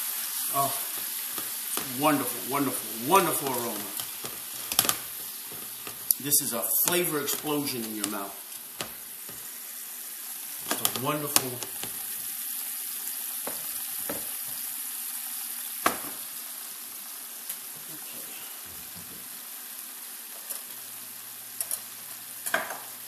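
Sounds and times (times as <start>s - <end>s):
sauce sizzling in a skillet: 0.0s - 23.0s.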